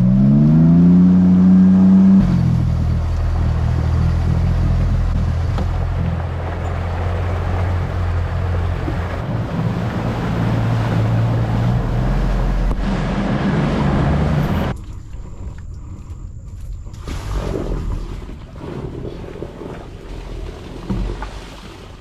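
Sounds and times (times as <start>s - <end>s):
boat motor running: 0.0s - 22.0s
wind: 0.0s - 22.0s.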